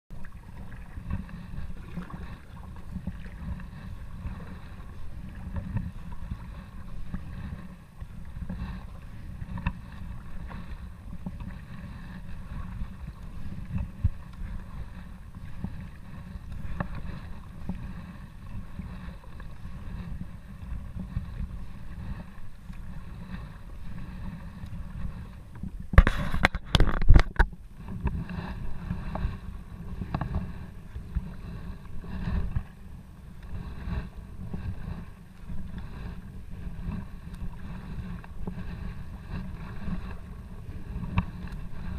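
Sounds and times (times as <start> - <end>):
kayak paddle strokes in water: 0.1 - 41.9
wind rumble on microphone: 0.1 - 41.9.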